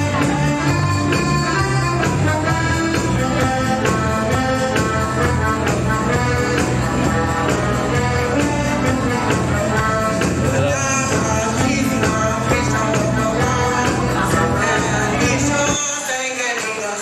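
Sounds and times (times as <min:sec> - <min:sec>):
electronic keyboard with beat: 0:00.0 - 0:15.8.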